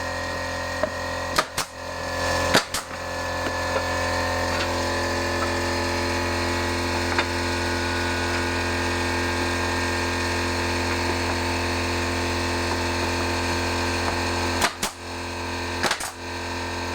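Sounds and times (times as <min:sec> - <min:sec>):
machine hum with fixed tones: 0:00.0 - 0:16.9.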